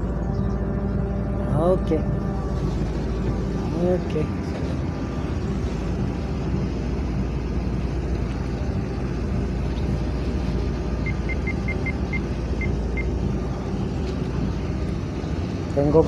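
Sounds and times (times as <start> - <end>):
ship engine low rumble: 0.0 - 16.0.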